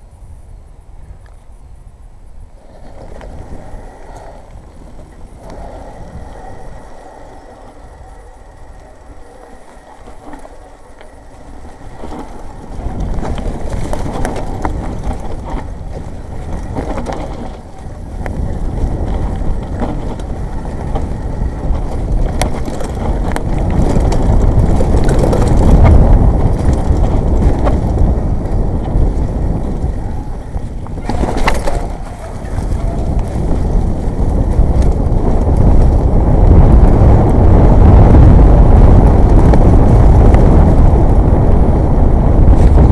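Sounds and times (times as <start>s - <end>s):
wind rushing on microphone: 0.0s - 42.9s
bike tyres and rattling: 2.3s - 42.9s.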